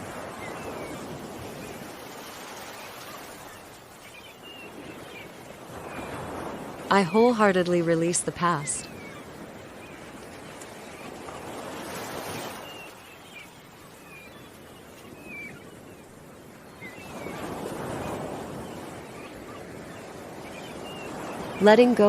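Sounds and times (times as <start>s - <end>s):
ocean waves washing in: 0.0s - 22.0s
small birds chirping: 0.2s - 22.0s.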